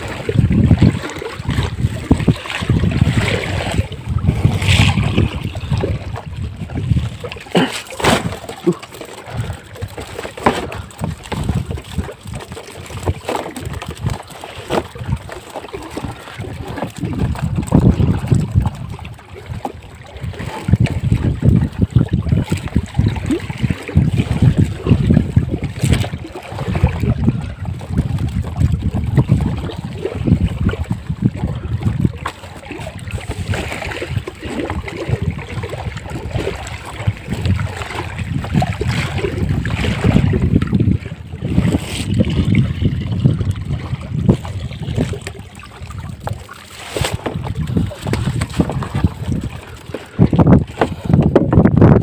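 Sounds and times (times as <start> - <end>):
water lapping against hull: 0.0 - 52.0
wind buffeting microphone: 0.0 - 52.0.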